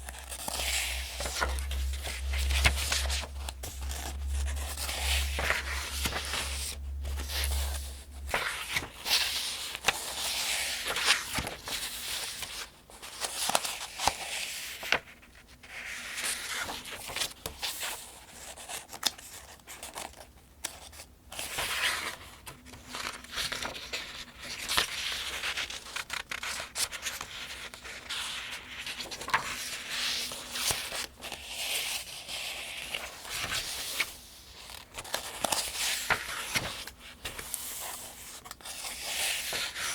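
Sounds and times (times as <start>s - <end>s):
pages turning: 0.0s - 15.1s, 18.6s - 39.9s.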